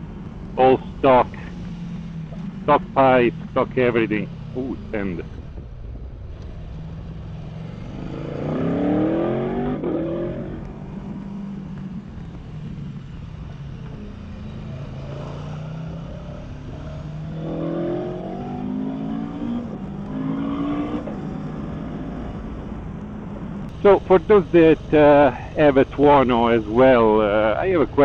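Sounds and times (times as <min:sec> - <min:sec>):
motorcycle engine accelerating: 0:00.0 - 0:25.3.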